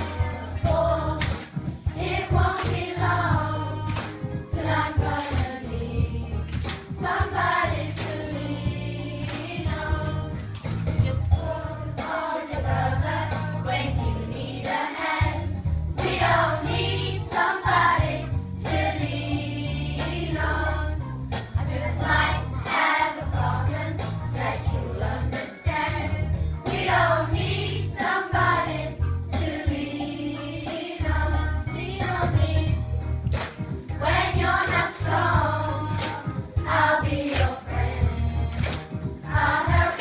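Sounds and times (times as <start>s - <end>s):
children's choir singing: 0.0s - 10.4s, 11.2s - 21.0s, 21.6s - 32.9s, 34.0s - 40.0s
accompaniment with bass line: 0.0s - 40.0s.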